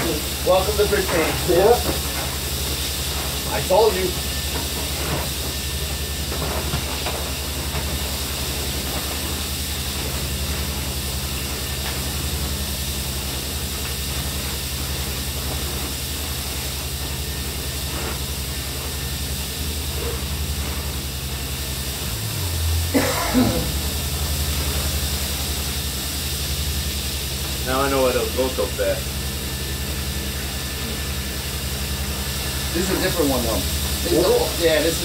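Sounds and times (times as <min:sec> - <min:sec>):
constant hiss: 0:00.0 - 0:35.0
machinery drone: 0:00.0 - 0:35.0.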